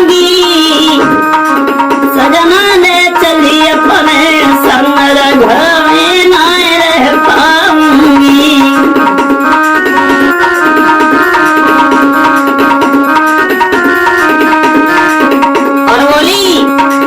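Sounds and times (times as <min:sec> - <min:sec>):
ornamented melody over held notes: 0:00.0 - 0:17.0.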